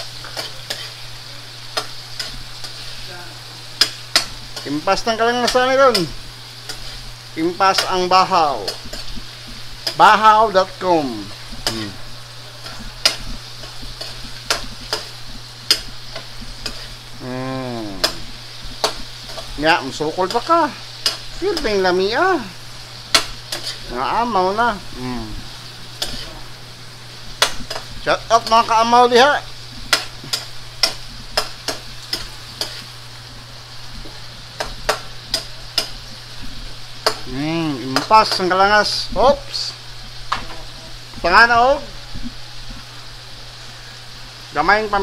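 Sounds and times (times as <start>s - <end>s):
shrimp sizzling in a wok: 0.0s - 45.0s.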